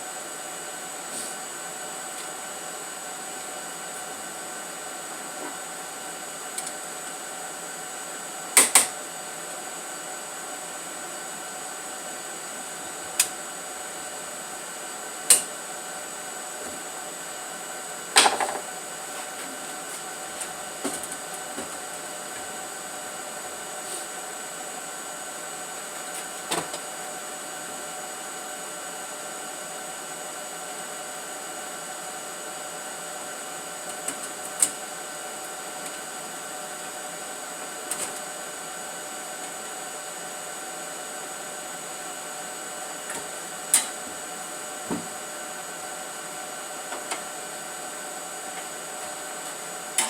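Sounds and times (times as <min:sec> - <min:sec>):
machine hum with high whine: 0:00.0 - 0:50.0.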